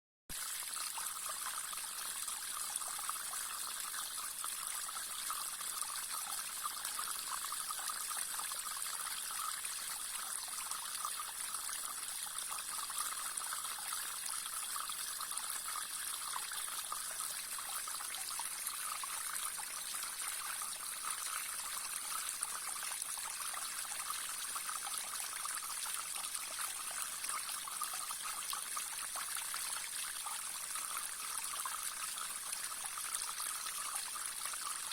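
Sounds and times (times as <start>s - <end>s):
small brook trickling and splashing: 0.3s - 34.9s.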